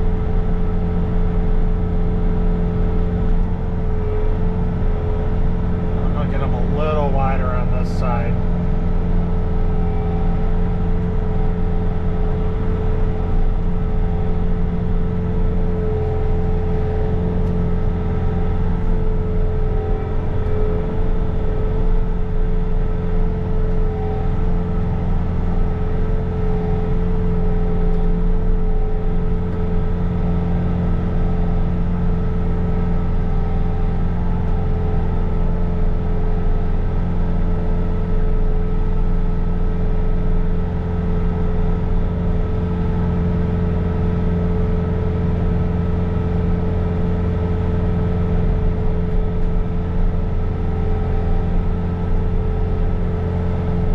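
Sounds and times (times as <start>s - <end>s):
diesel engine at high revs: 0.0s - 53.9s.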